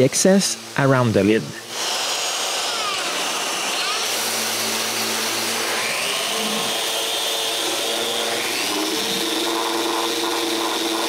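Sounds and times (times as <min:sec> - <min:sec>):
orbital sander on plywood: 0:01.6 - 0:11.0.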